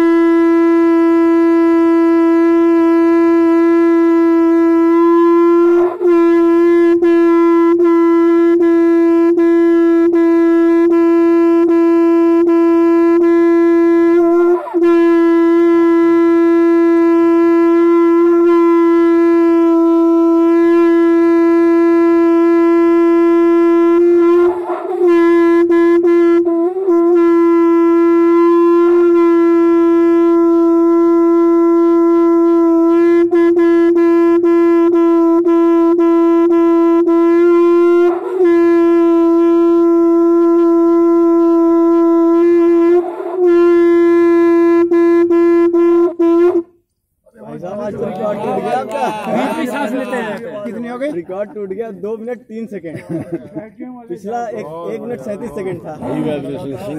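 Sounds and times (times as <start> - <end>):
conch shell blown: 0.0 - 46.9.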